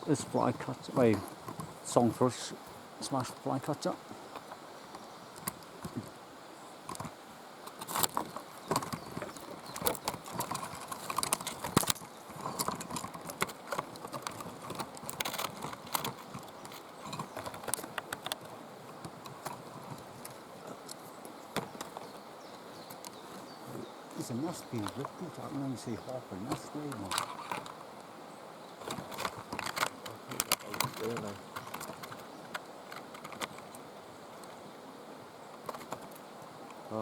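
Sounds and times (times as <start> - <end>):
faint outdoor background: 0.0 - 37.0.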